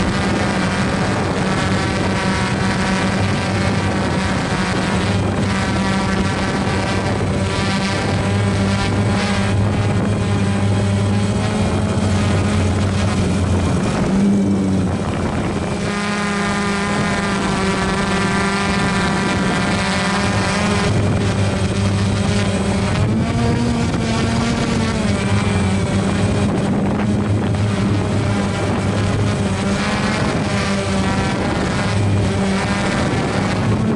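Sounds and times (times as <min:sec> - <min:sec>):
riding mower engine droning: 0:00.0 - 0:33.9.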